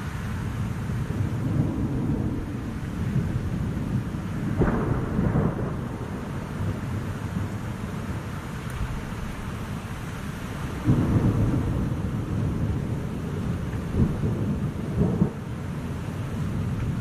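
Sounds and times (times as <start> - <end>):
steady rain: 0.0 - 17.0
rolling rumble of thunder: 0.6 - 17.0.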